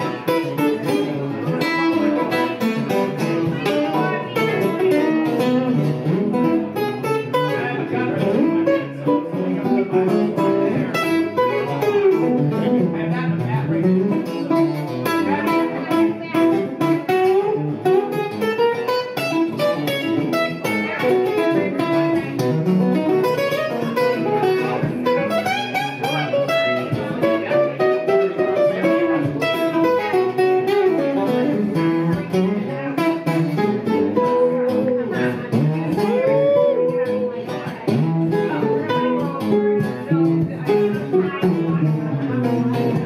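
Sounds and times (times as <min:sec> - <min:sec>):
electric guitar lead: 0:00.0 - 0:43.0.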